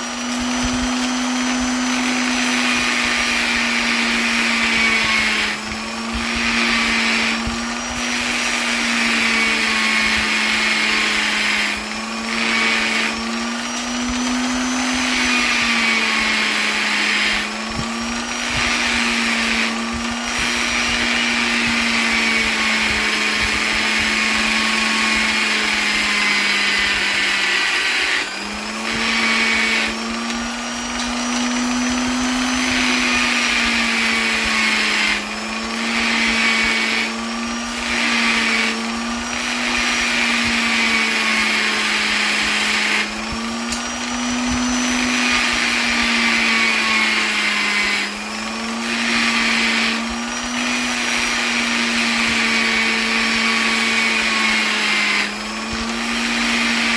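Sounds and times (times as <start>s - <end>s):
electric polisher motor hum: 0.0s - 56.9s.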